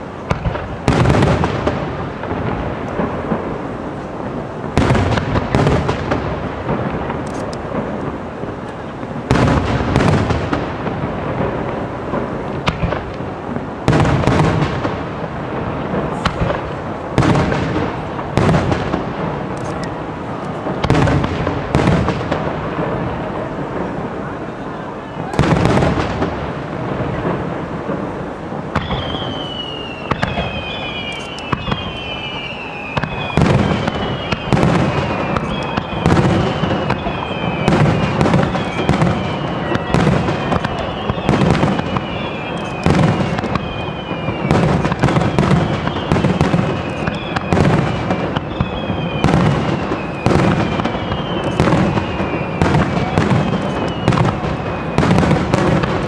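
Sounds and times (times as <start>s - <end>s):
firework whistles gliding downward: 0.0s - 56.0s.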